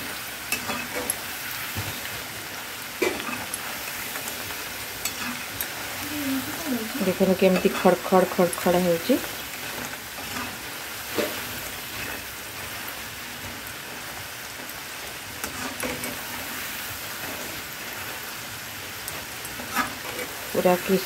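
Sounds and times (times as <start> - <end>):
fries sizzling in hot oil: 0.0 - 21.0.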